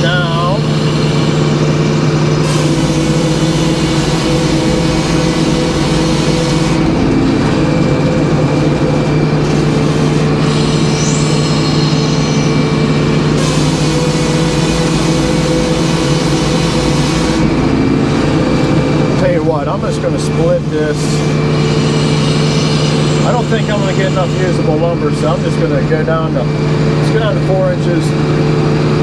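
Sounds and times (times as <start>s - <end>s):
sawmill blade droning: 0.0s - 29.0s.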